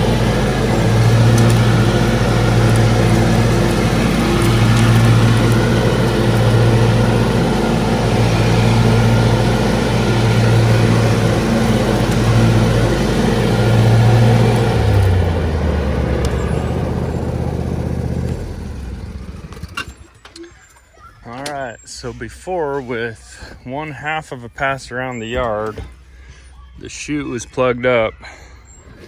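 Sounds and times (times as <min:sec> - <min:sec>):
riding mower engine running: 0:00.0 - 0:27.1.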